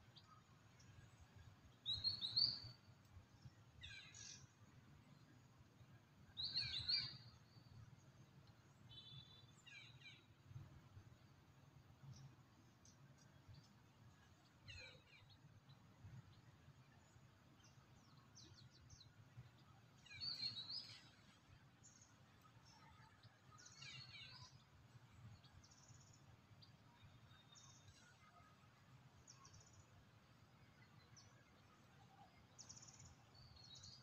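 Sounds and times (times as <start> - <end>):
bird calls and chirps: 0.1 - 4.6, 5.8 - 7.8, 8.5 - 10.4, 12.0 - 28.4, 30.7 - 34.0.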